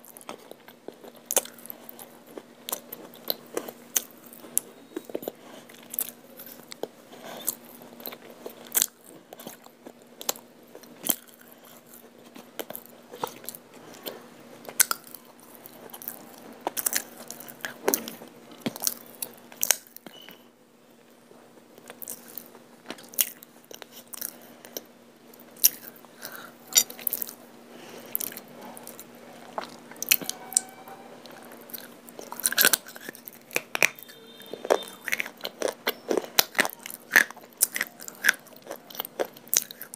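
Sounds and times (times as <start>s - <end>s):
biting and chewing clay: 0.0s - 20.1s, 21.8s - 39.9s
faint steady hum: 0.0s - 39.9s.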